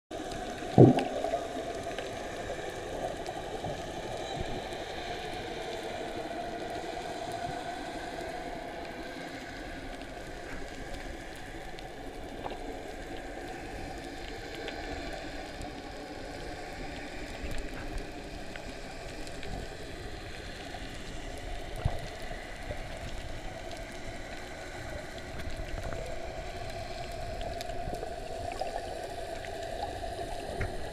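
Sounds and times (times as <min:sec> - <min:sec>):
low underwater rush: 0:00.1 - 0:30.9
faint clicks and crackles: 0:00.2 - 0:30.9.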